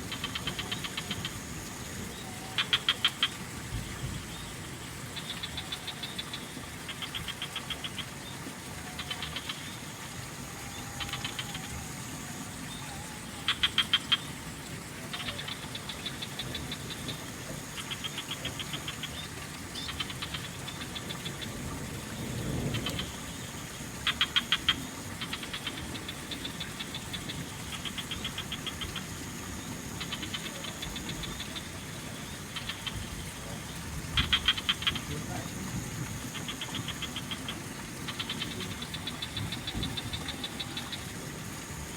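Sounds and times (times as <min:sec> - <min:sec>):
frogs calling in pulsed trains: 0:00.0 - 0:41.9
insects whining: 0:00.0 - 0:41.9.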